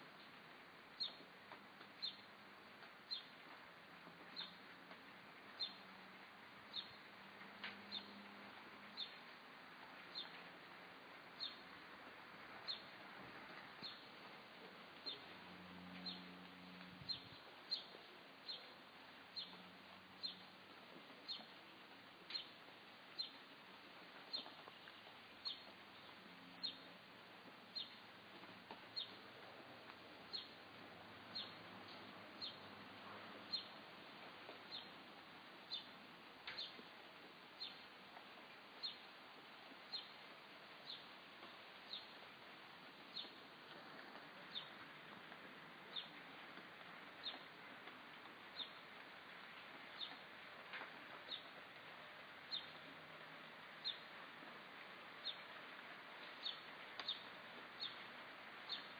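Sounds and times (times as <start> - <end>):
faint steady hiss: 0.0 - 58.9.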